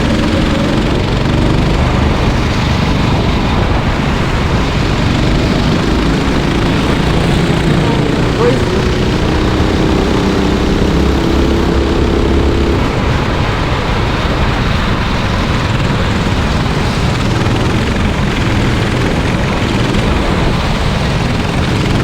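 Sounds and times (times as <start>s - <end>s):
racing kart engine buzzing: 0.0s - 22.0s.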